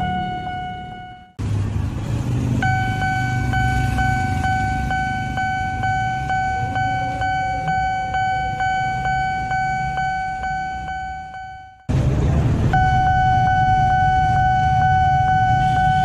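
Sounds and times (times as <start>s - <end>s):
level crossing warning bell: 0.0s - 1.4s, 2.6s - 11.9s, 12.7s - 16.0s.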